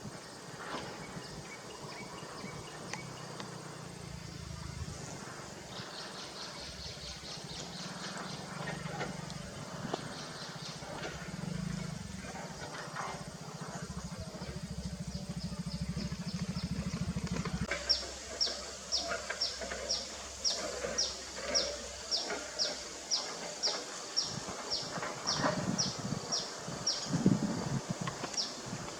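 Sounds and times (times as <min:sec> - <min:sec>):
low pulsing engine hum: 0:00.0 - 0:28.9.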